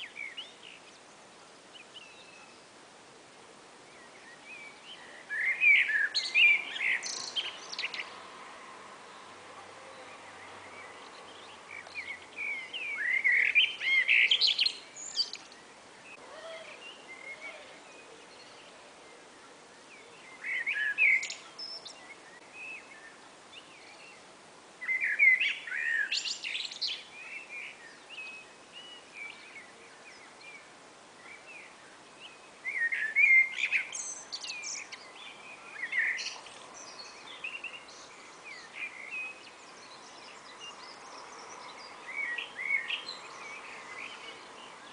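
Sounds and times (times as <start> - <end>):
blackbirds singing: 0.0 - 2.8, 3.8 - 8.3, 9.0 - 44.9.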